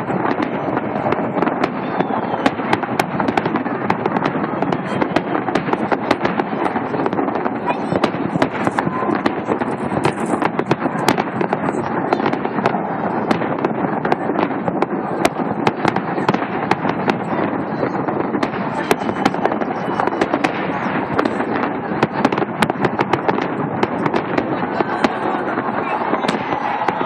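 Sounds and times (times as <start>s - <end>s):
constant background noise: 0.0s - 27.0s
fireworks crackling and popping: 0.0s - 27.0s.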